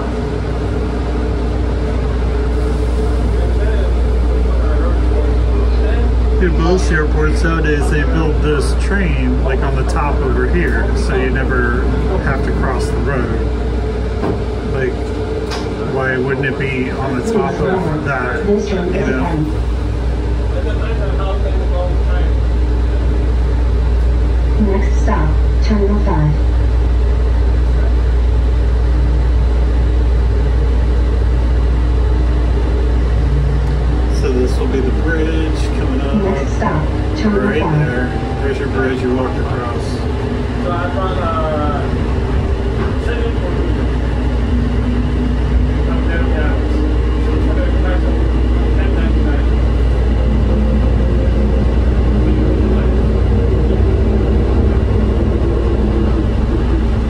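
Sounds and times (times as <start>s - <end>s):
low motor hum: 0.0s - 57.0s
train low rumble: 0.0s - 57.0s.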